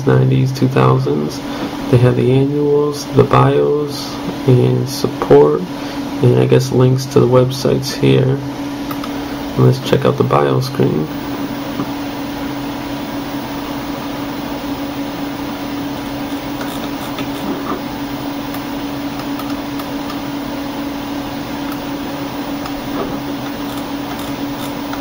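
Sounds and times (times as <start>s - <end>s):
machine hum with hiss: 0.0s - 25.0s.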